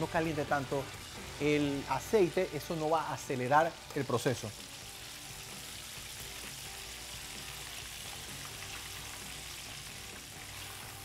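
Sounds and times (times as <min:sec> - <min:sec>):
deep-frying sizzle in oil: 0:00.0 - 0:11.0.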